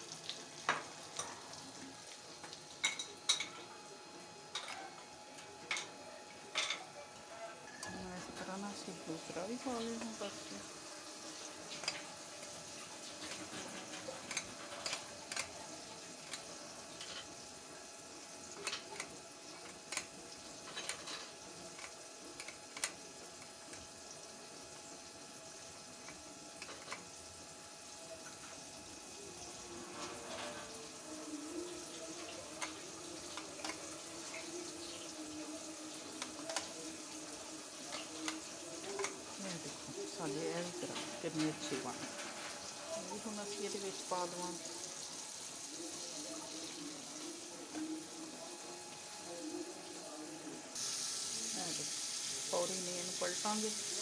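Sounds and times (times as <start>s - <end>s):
food deep-frying in oil: 0.0s - 54.0s.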